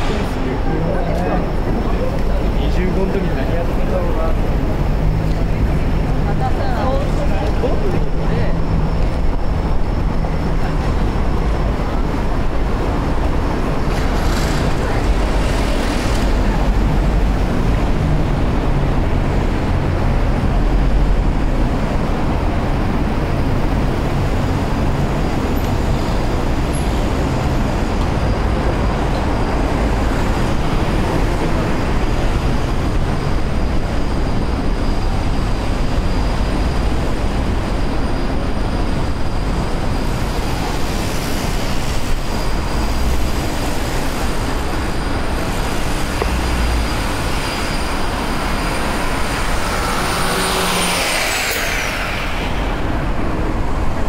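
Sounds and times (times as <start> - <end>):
bicycle tyres rolling on pavement: 0.2 - 54.0.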